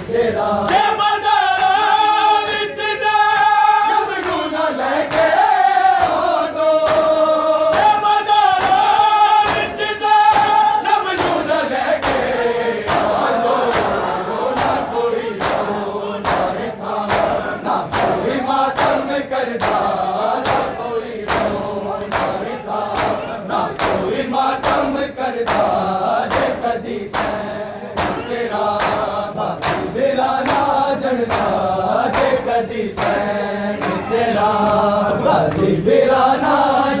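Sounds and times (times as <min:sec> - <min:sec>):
crowd of men chanting a lament: 0:00.0 - 0:37.0
rhythmic chest-beating slaps: 0:00.0 - 0:37.0.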